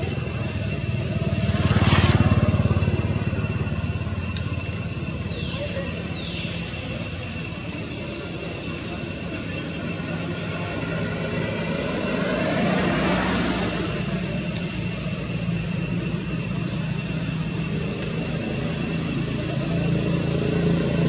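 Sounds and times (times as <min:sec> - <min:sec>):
passing vehicle engine: 0:00.0 - 0:06.7, 0:09.9 - 0:21.0
thin high whine: 0:00.0 - 0:21.0.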